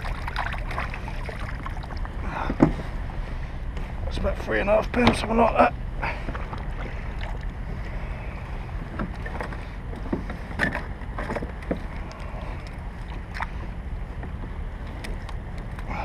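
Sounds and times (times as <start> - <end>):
water splashing around kayak: 0.0 - 4.0, 4.7 - 16.0.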